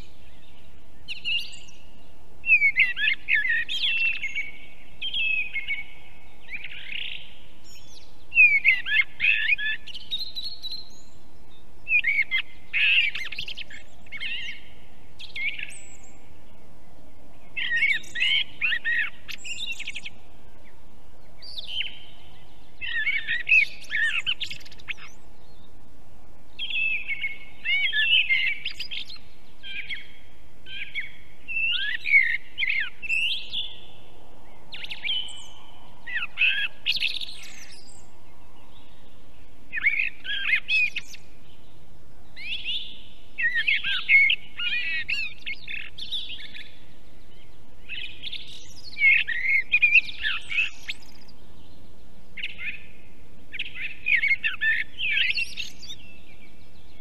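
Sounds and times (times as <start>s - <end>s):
songbirds warbling: 0.0s - 57.0s.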